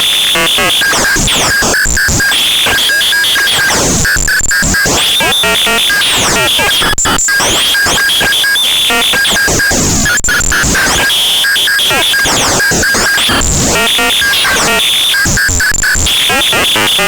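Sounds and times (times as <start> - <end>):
harsh synthesized noise: 0.0 - 17.0.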